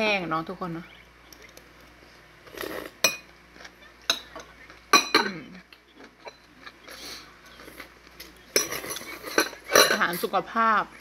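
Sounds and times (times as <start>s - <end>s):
eating and scraping noises: 1.3s - 11.0s.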